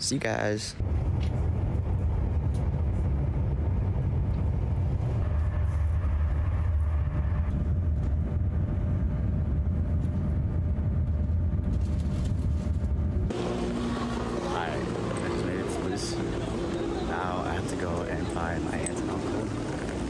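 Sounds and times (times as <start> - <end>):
vehicle low rumble: 0.6 - 20.0.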